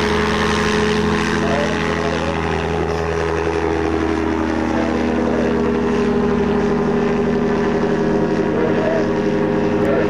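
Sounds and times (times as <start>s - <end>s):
aircraft engine and propeller: 0.0s - 10.0s.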